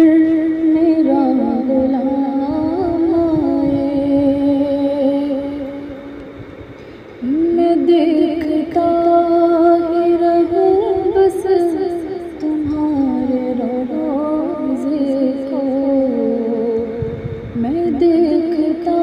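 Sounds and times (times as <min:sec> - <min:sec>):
woman singing long notes: 0:00.0 - 0:06.2, 0:07.2 - 0:19.0.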